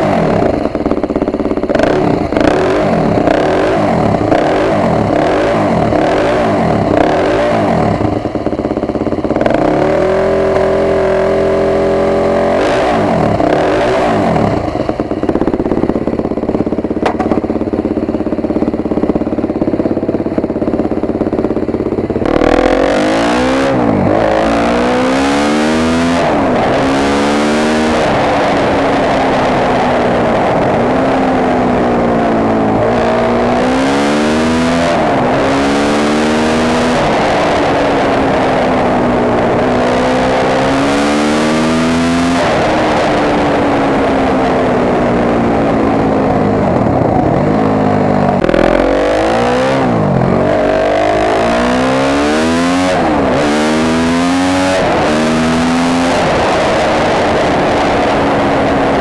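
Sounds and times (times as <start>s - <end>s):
dirt bike engine revving: 0.0s - 8.4s, 9.0s - 18.8s, 21.9s - 59.0s.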